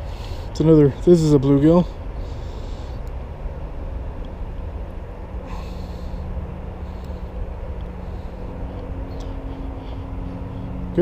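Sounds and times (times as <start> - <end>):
faint droning hum: 0.0 - 11.0
low rumble: 1.9 - 11.0.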